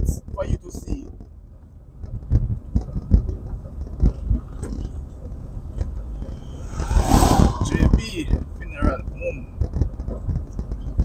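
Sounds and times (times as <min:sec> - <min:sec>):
vehicle driving rumble: 0:00.0 - 0:11.0.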